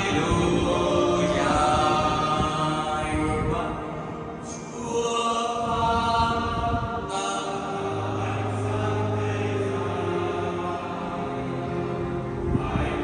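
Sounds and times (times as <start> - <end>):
chant over loudspeakers: 0.0 - 13.0.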